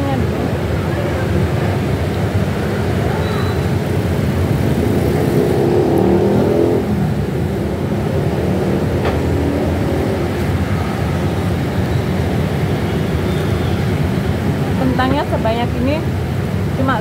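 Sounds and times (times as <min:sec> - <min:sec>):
vehicle engine accelerating: 0:00.0 - 0:14.9
road traffic rumble: 0:00.0 - 0:17.0.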